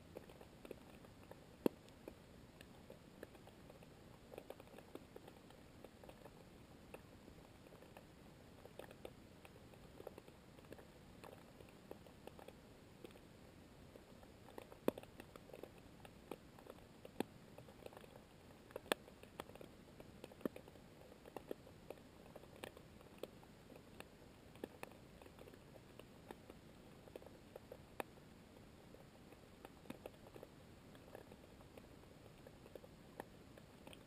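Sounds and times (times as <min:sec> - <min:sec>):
faint hiss: 0:00.0 - 0:34.0
underwater clicks and ticks: 0:00.1 - 0:13.2, 0:14.0 - 0:28.2, 0:29.3 - 0:34.0.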